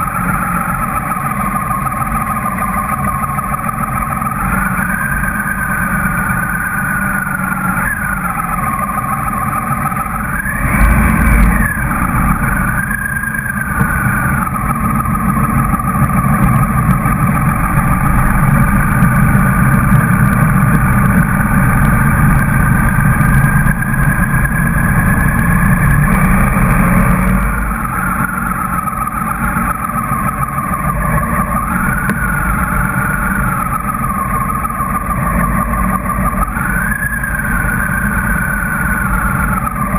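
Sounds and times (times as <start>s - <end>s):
motorcycle engines running: 0.0s - 39.9s.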